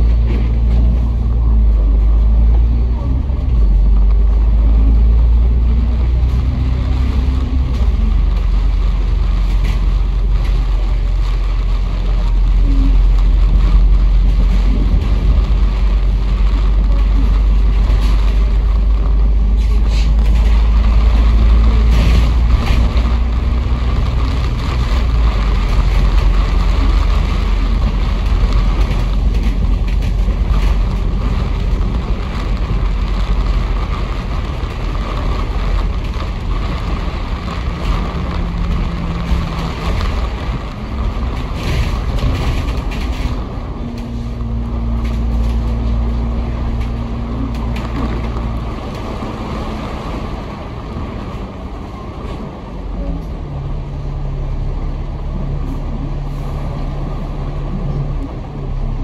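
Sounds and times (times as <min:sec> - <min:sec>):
bus engine rumbling: 0:00.0 - 0:59.0
road and air noise: 0:00.0 - 0:59.0.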